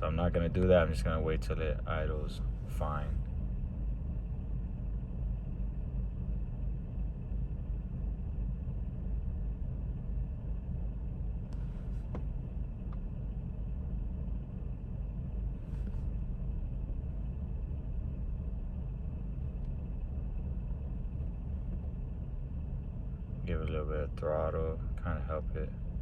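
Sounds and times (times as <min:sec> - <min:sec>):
car engine idling rough: 0:00.0 - 0:26.0.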